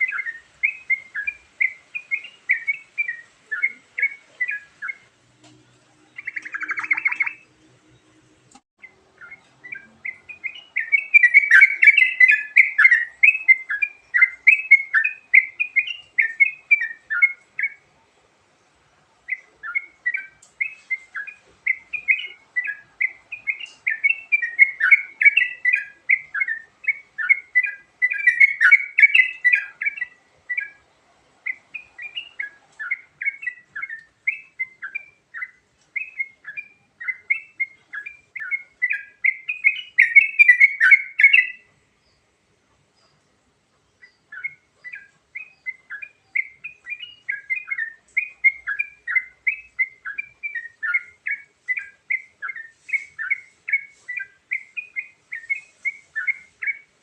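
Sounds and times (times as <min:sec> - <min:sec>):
bird singing chirped notes: 0:00.0 - 0:18.1, 0:18.8 - 0:57.0.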